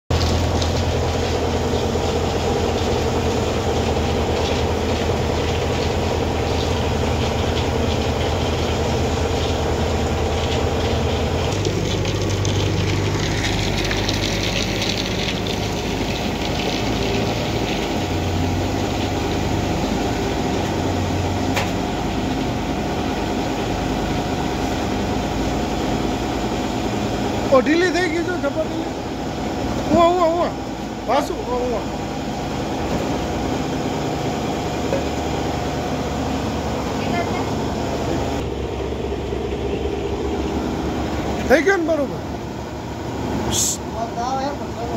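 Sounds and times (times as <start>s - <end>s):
flour mill machine hum and rattle: 0.1s - 44.9s.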